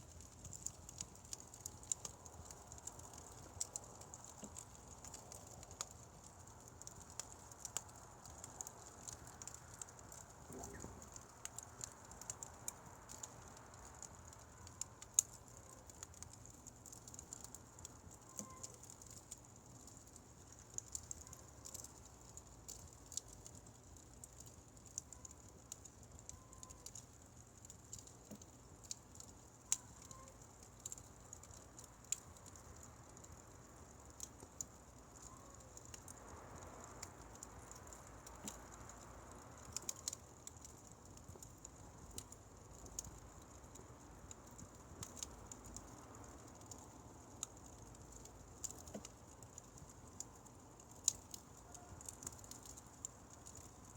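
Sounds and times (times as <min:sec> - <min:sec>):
firewood crackling and popping: 0:00.0 - 0:53.9.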